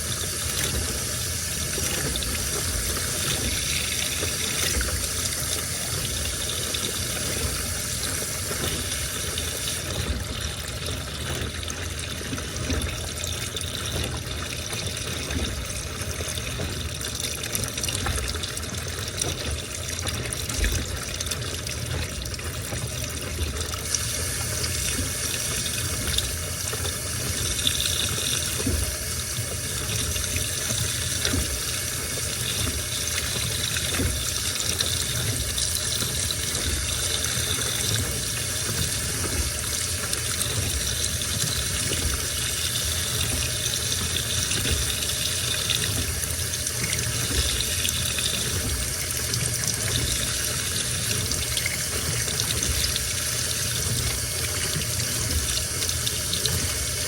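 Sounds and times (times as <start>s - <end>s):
washing machine filling with water: 0.0s - 57.0s.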